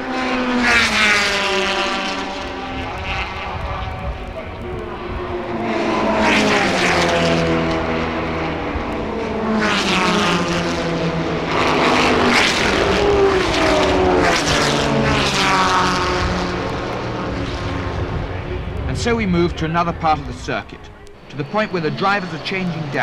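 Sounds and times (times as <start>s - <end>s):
racing cars passing at speed: 0.0s - 23.0s.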